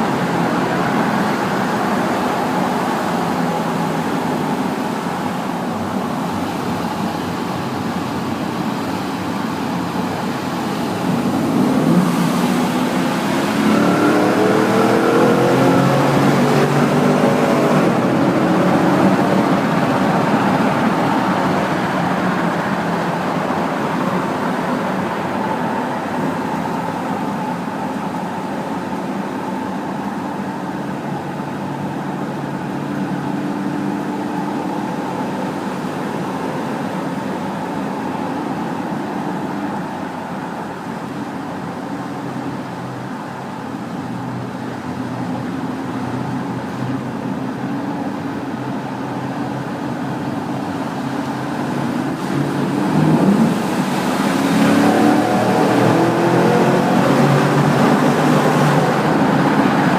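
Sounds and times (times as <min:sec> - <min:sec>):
car engine rumbling in a tunnel: 0:00.0 - 0:59.9.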